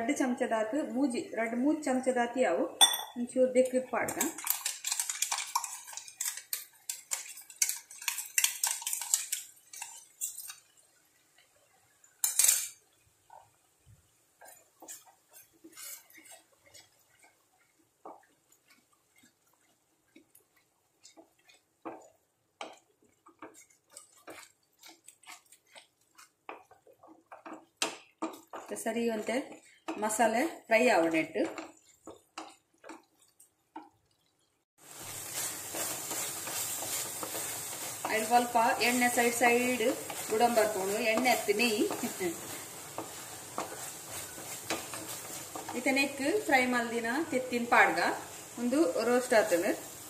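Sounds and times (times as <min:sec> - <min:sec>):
utensils scraping frying pan: 0:04.0 - 0:13.4, 0:14.4 - 0:33.9, 0:34.8 - 0:50.0.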